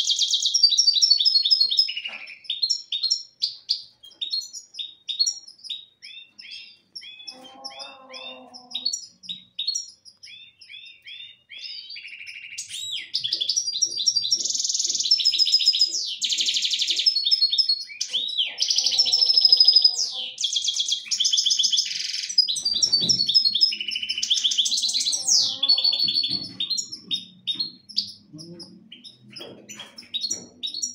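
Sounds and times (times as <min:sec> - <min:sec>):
finches singing: 0:04.2 - 0:30.9.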